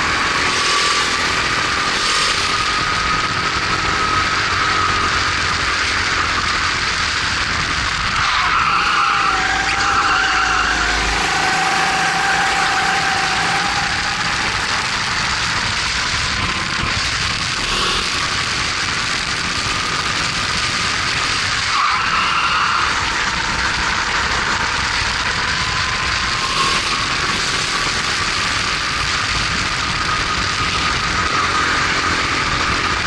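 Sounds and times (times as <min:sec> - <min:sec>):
kart engine running hard: 0:00.0 - 0:33.0
steady rush of noise: 0:00.0 - 0:33.0.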